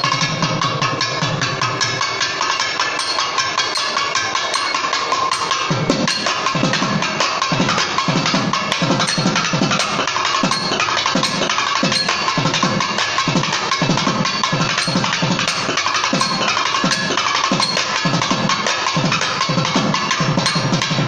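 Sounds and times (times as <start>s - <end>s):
drum sharp cracking strokes: 0.0s - 21.0s.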